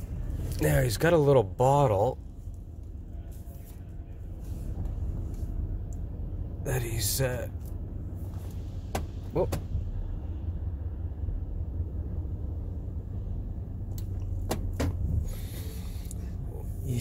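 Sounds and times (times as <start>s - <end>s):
car wash machinery rumble: 0.0s - 17.0s.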